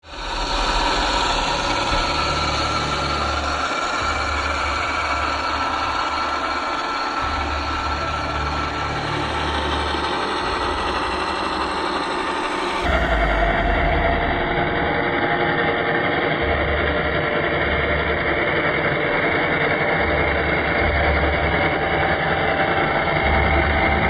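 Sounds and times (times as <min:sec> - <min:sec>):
engine running with low rumble: 0:00.1 - 0:24.0.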